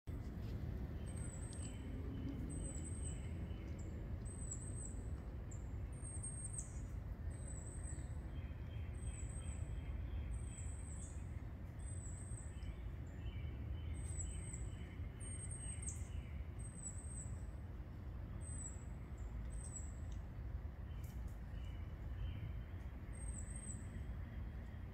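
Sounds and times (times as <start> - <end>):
fainter lower bird songs: 0.1 - 24.9
steady low rumble: 0.1 - 24.9.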